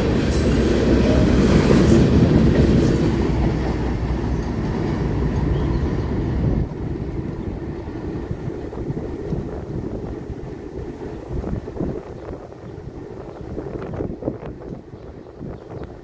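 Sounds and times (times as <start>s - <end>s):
freight train rolling on rails: 0.0s - 16.0s.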